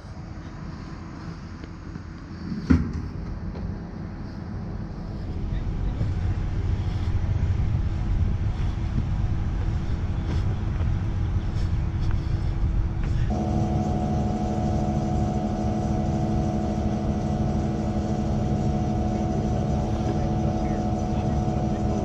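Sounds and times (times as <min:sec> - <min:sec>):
heavy engine rumbling: 0:00.0 - 0:22.0.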